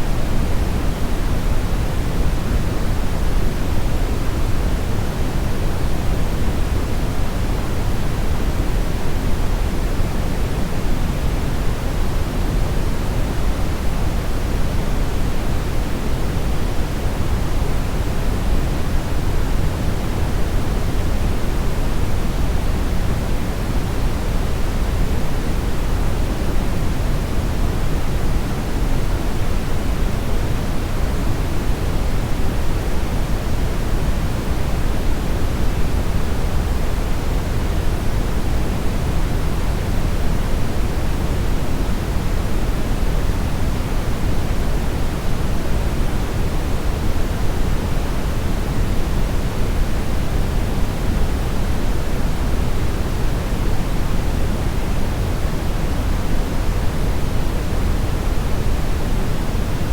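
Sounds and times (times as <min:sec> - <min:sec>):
brownish noise hiss: 0:00.0 - 0:59.9.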